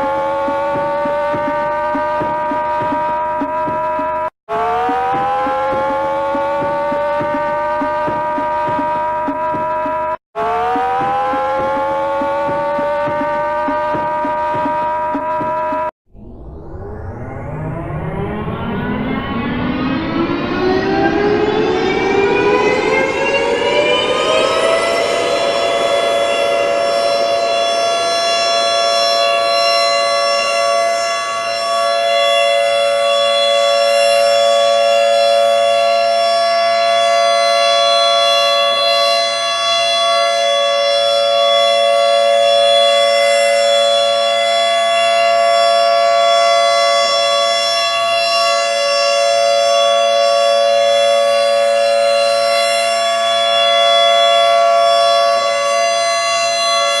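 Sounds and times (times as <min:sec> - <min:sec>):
warning siren wailing: 0:00.0 - 0:57.0.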